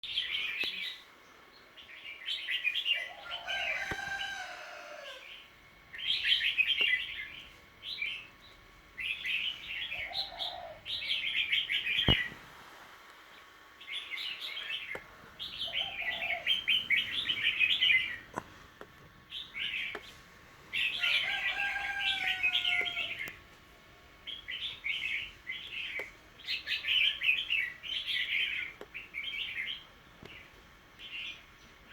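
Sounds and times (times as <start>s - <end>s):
small birds chirping: 0.0s - 12.4s, 13.1s - 31.9s.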